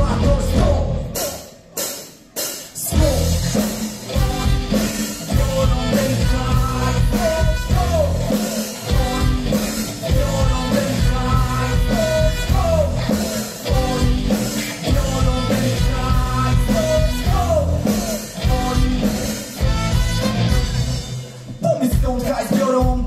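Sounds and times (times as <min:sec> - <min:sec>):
live rock band music: 0:00.0 - 0:23.0.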